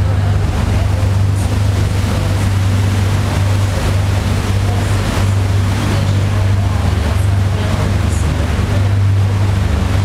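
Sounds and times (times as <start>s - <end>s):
boat engine humming: 0.0s - 10.0s
water rushing: 0.0s - 10.0s.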